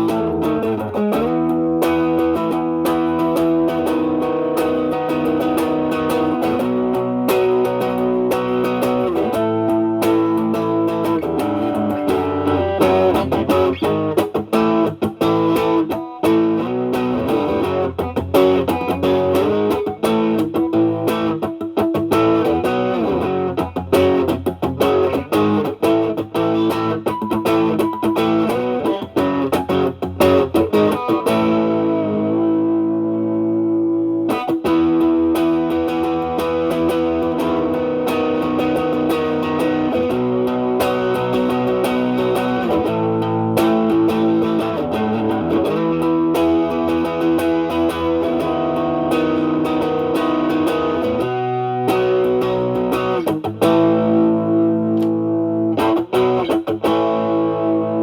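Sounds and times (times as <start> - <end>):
overdriven electric guitar blues playing: 0.0 - 58.0.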